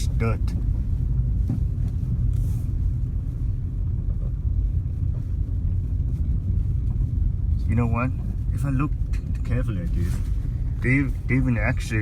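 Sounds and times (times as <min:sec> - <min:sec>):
car driving road and engine noise: 0:00.0 - 0:12.0.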